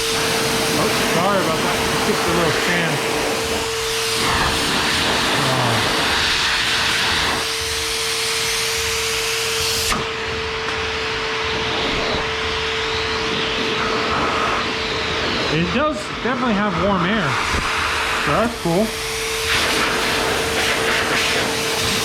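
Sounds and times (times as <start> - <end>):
car dryer blowing air: 0.0 - 22.0
motor whine: 0.0 - 22.0.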